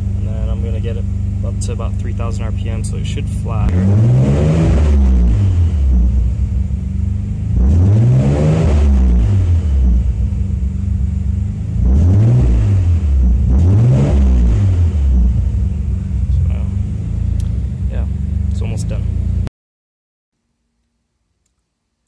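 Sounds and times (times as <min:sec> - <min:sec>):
car engine revving from idle: 0:00.0 - 0:19.5.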